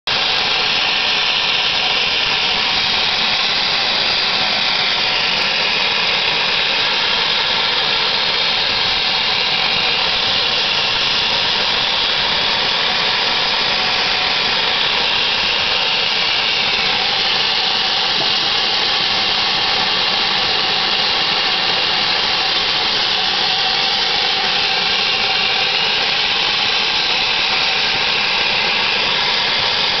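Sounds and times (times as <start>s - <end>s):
loud hiss of escaping steam: 0.1s - 30.0s.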